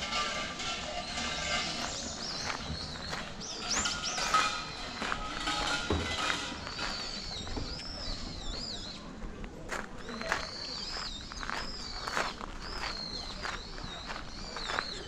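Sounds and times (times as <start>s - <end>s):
birds chirping and whistling: 0.0s - 9.2s, 10.0s - 15.0s
footsteps on stone paving: 0.0s - 15.0s.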